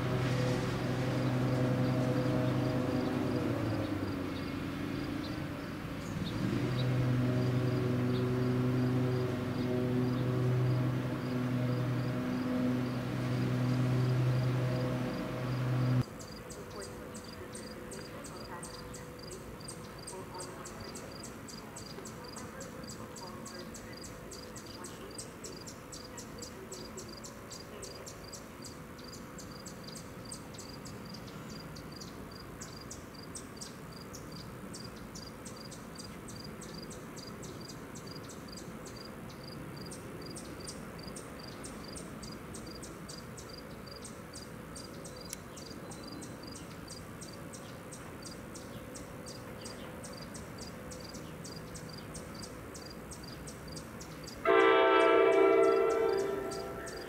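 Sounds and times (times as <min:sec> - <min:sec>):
insects chirping: 0:01.0 - 0:57.0.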